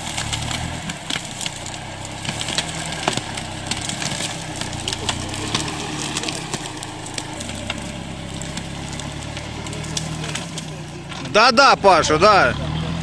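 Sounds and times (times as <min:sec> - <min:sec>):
engine running low: 0:00.0 - 0:13.0
twigs cracking under tyres: 0:00.0 - 0:13.0.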